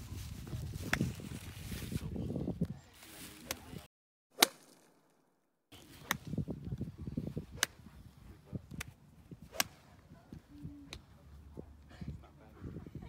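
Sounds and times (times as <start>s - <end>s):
wind rumble on microphone: 0.0s - 3.9s, 5.8s - 13.0s.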